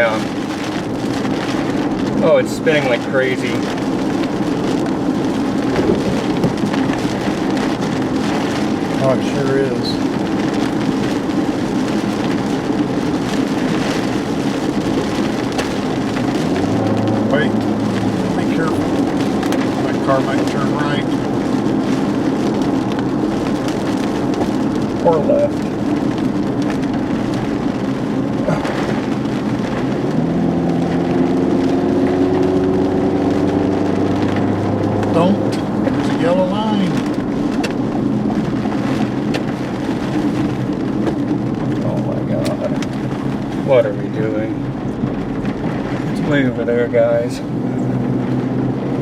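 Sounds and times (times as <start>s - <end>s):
car engine hum: 0.0s - 49.0s
wind and road hiss: 0.0s - 49.0s.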